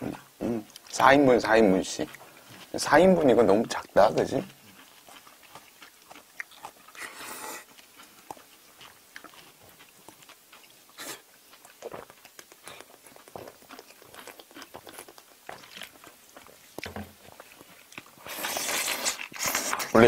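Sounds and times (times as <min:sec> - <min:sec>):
wet chewing: 0:00.0 - 0:20.0.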